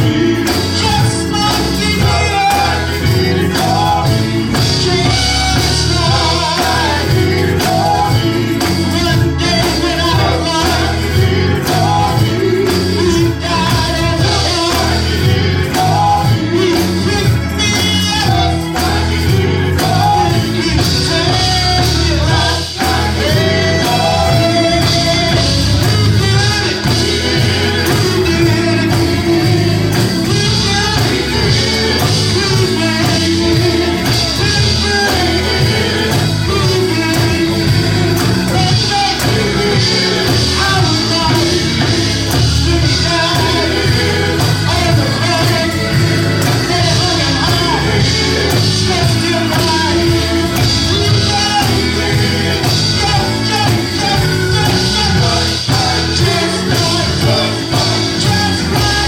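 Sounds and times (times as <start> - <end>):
bass guitar: 0.0 - 59.0
drums: 0.0 - 59.0
guitar: 0.0 - 59.0
people singing: 0.0 - 59.0
worship band playing: 0.0 - 59.0.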